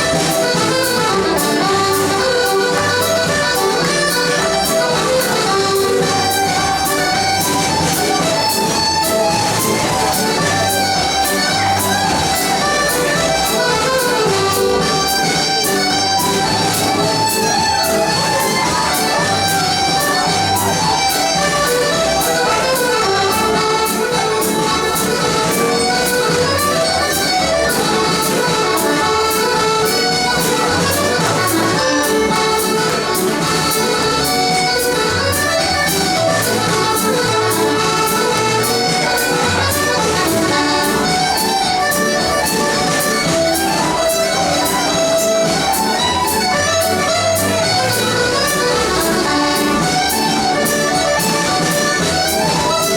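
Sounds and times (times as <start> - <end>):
accordion: 0.0 - 52.9
dance band playing: 0.0 - 52.9.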